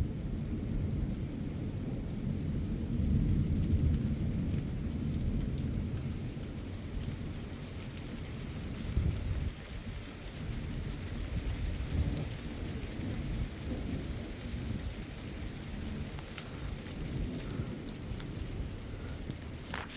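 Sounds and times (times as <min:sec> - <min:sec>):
steady rain falling: 0:00.0 - 0:19.9
thunder rumbling: 0:00.0 - 0:19.9.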